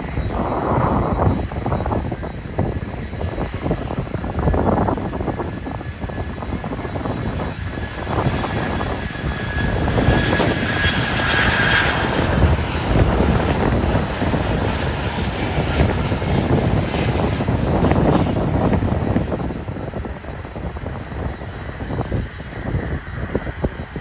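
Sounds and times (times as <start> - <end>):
plane engines rumbling: 0.0 - 24.0.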